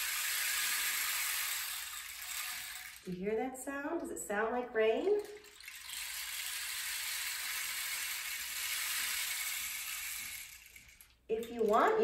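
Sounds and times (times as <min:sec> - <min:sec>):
rain stick hiss: 0:00.0 - 0:04.4, 0:05.0 - 0:12.0.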